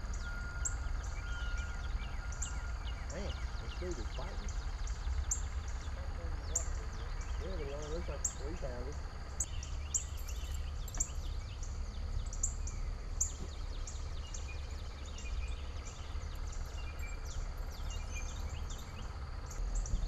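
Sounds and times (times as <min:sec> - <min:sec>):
steady low rumble: 0:00.0 - 0:20.0
wild birds chirping: 0:00.0 - 0:20.0.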